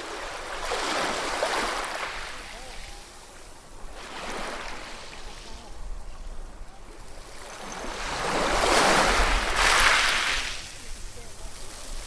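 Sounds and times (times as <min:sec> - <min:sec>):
ocean waves breaking: 0:00.0 - 0:06.0, 0:06.9 - 0:12.0.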